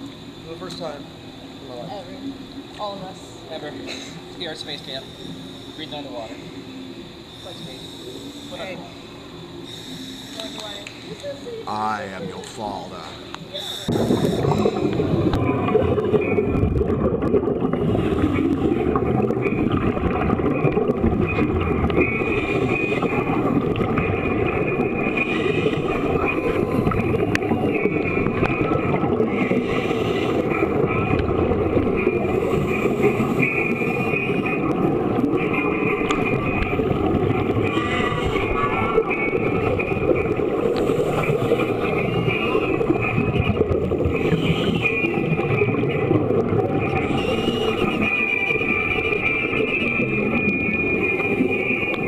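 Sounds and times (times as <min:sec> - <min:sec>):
regulator bubbling: 0:00.0 - 0:52.0
muffled underwater rumble: 0:00.2 - 0:52.0.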